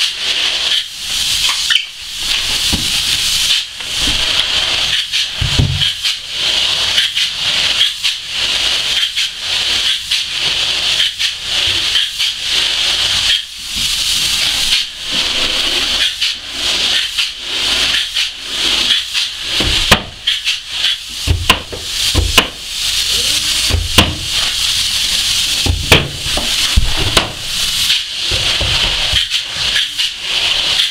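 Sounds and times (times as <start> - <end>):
spray foam gun hissing: 0.0 - 30.9.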